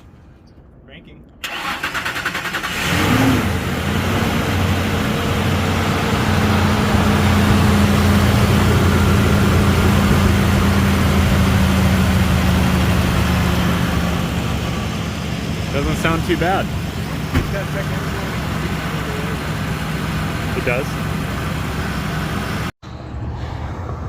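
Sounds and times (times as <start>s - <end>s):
car engine idling: 3.5s - 23.0s.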